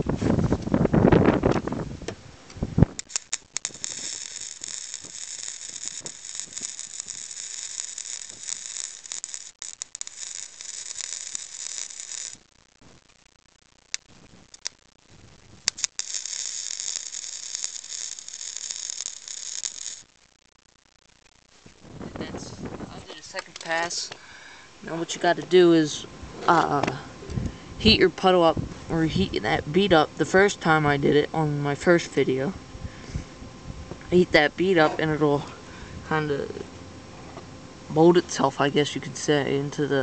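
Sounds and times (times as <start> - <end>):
welder arc sizzling: 0.0 - 40.0.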